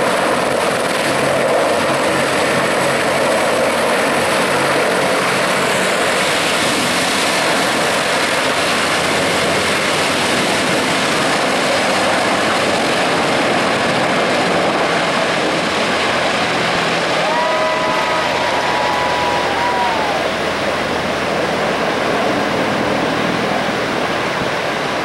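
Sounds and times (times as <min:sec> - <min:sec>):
helicopter rotor and engine: 0:00.0 - 0:25.0.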